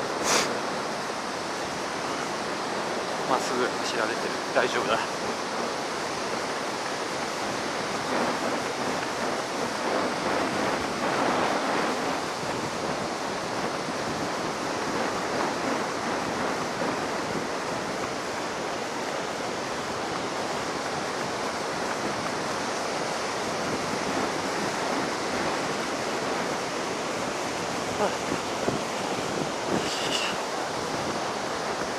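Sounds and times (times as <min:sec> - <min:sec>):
waves breaking on beach: 0:00.0 - 0:31.9
wind on microphone: 0:00.0 - 0:31.9.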